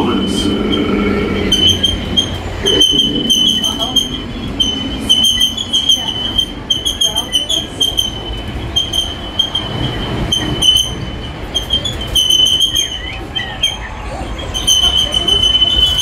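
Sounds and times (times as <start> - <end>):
low rumble of train cars: 0.0 - 16.0
train wheels squealing: 0.0 - 16.0.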